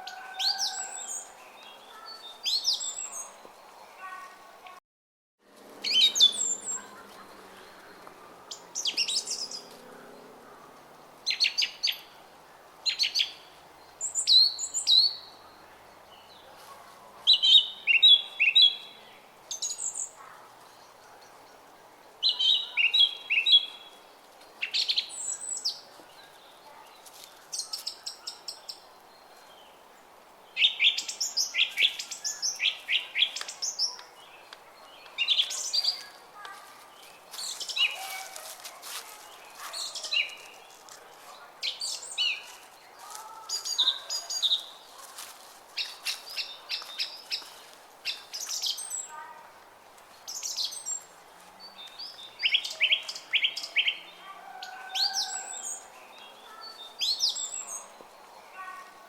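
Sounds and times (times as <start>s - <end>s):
songbirds chirping: 0.0s - 4.8s, 5.5s - 59.0s.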